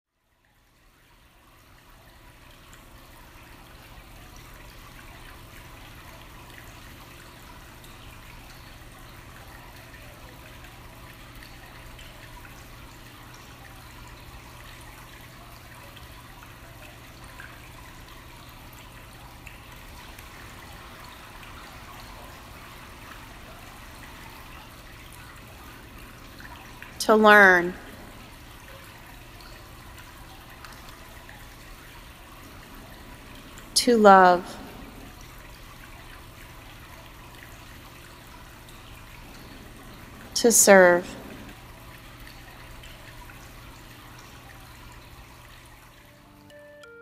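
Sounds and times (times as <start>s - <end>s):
water trickling down wall: 0.2s - 46.6s.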